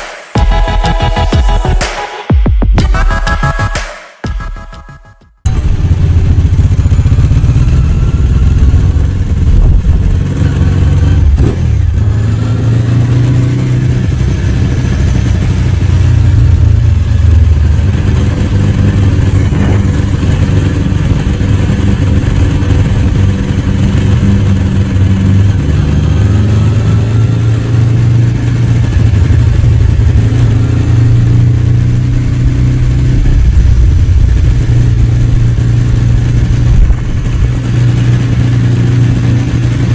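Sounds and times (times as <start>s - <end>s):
city traffic: 5.4s - 39.9s
motorcycle engine running: 5.5s - 39.9s.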